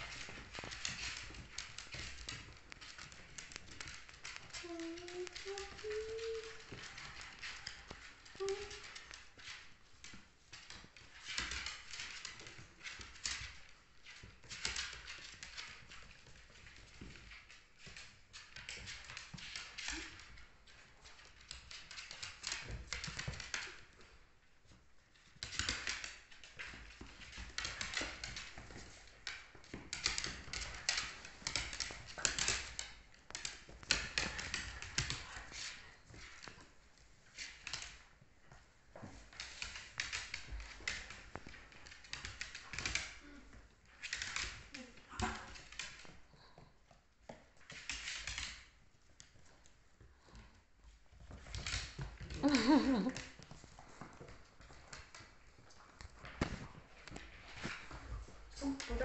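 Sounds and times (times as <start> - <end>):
dog claws clicking on wooden floor: 0.0 - 59.0.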